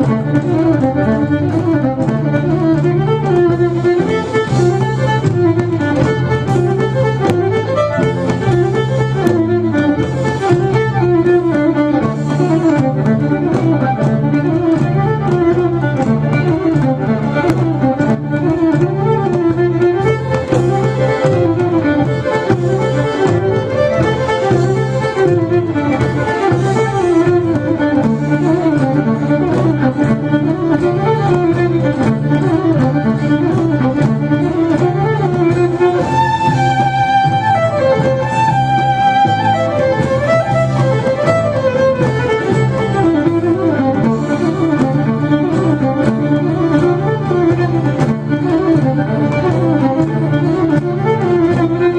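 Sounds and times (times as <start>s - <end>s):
fiddle melody: 0.0s - 51.9s
held bass notes: 0.0s - 51.9s
steady drum beat: 0.0s - 51.9s.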